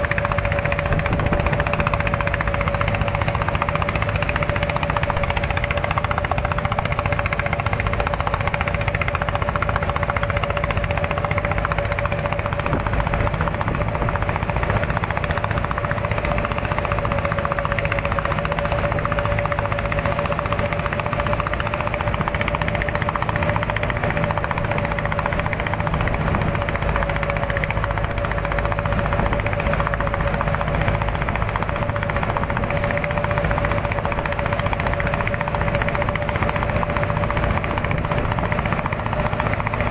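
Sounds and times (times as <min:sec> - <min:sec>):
small motor whining and rattling: 0:00.0 - 0:39.9.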